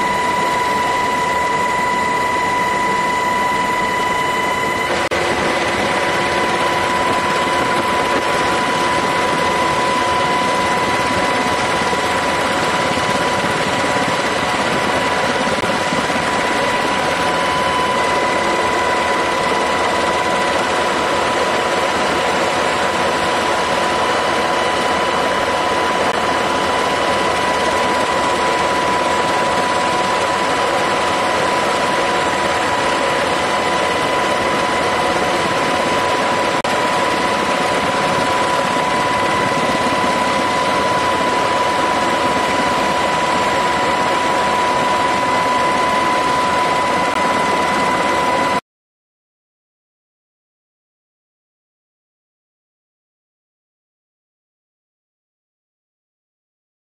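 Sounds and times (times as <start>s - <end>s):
helicopter hovering: 0.0s - 48.6s.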